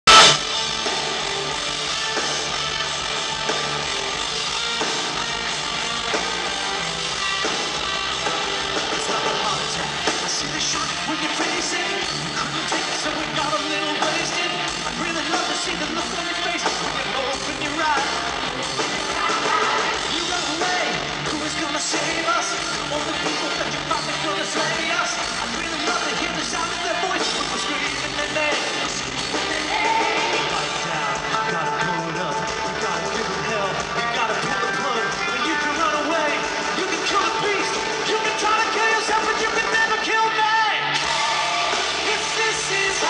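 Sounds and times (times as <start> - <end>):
live hard rock band: 0.0 - 43.0
lead singer: 7.4 - 43.0.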